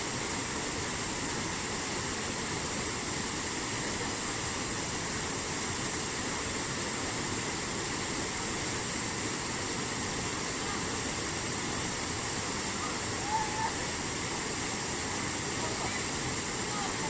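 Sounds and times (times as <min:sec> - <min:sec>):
high-pitched hiss: 0:00.0 - 0:17.0
waterfall rushing: 0:00.0 - 0:17.0.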